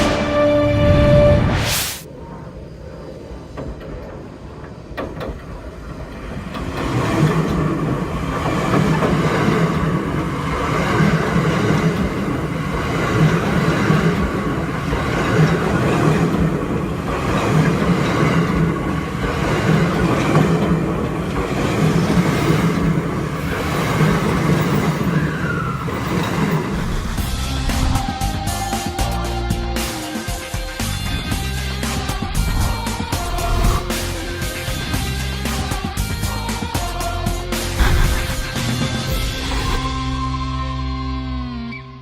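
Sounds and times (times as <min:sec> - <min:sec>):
train wheels rumbling on rails: 0:03.2 - 0:40.5.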